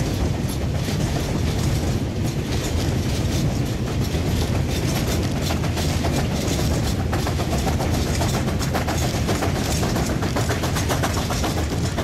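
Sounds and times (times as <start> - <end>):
heavy train rumble: 0.0 - 12.0
steam locomotive chuffing: 0.0 - 12.0.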